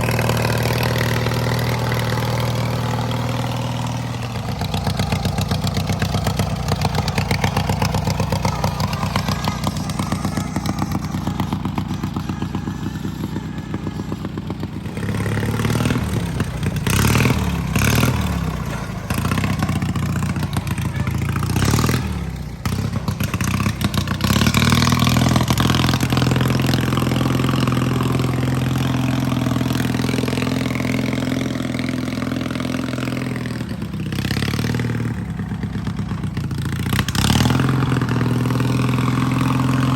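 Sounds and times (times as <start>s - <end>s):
lawnmower engine revving: 0.0s - 39.9s.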